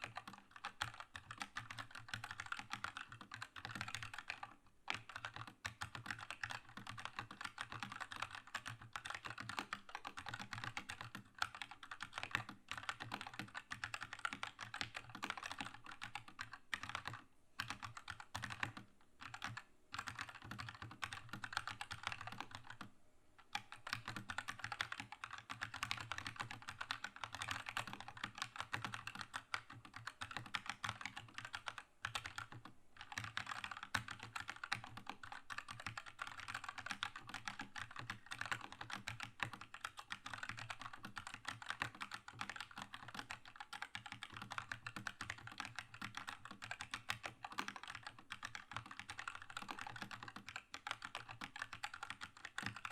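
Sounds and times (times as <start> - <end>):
mechanical keyboard typing: 0.0 - 52.9.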